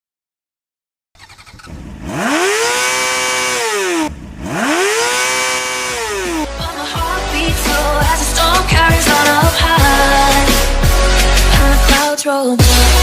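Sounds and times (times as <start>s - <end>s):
engine revving: 1.2s - 11.9s.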